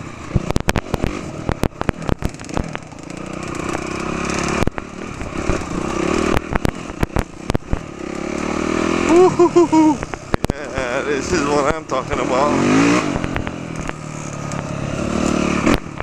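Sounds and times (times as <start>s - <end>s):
knocks and clatter over rough ground: 0.0s - 8.7s, 10.0s - 16.0s
dirt bike engine revving: 0.0s - 16.0s.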